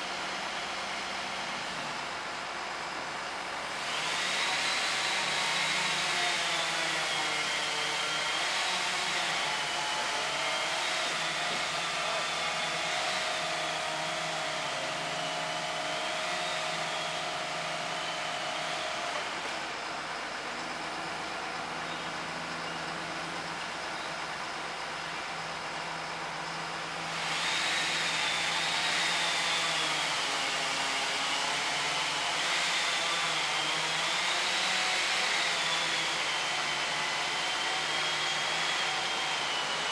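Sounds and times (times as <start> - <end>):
tree-work machinery running: 0.0 - 39.9.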